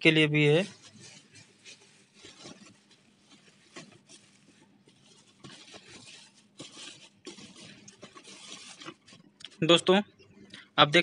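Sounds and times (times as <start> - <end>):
bubble wrap rustling and crinkling: 0.0 - 9.9.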